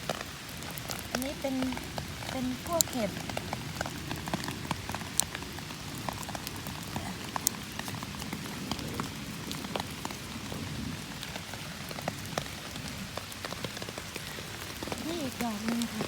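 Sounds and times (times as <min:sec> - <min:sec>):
rain falling: 0:00.0 - 0:16.0
raindrops ticking on surfaces: 0:00.0 - 0:16.0.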